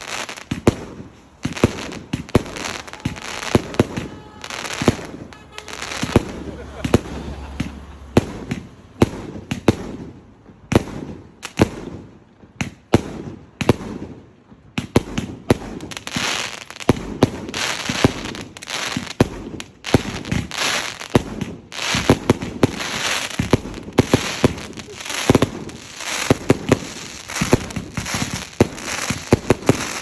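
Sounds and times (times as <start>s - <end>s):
fireworks bangs: 0.0s - 30.0s
fireworks hiss and crackle: 0.0s - 30.0s.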